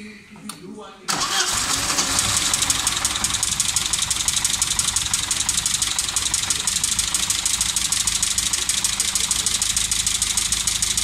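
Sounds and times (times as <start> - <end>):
car engine idling with ticking: 1.5 - 11.0.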